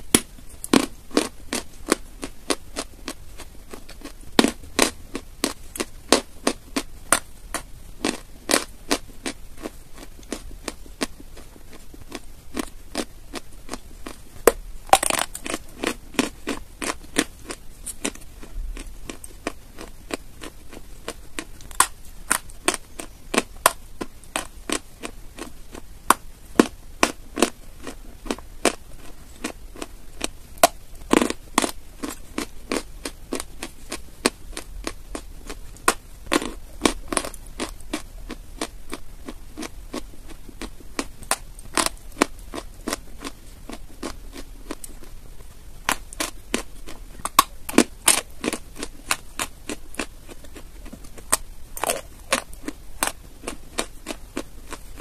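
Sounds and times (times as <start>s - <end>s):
chalky block crunching when chewed: 0.1s - 55.0s.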